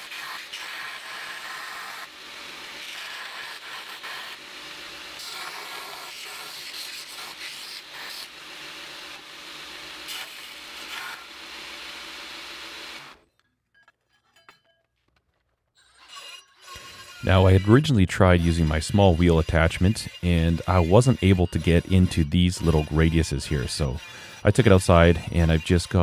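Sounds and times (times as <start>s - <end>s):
belt grinder grinding steel: 0.0s - 13.4s, 15.8s - 26.0s.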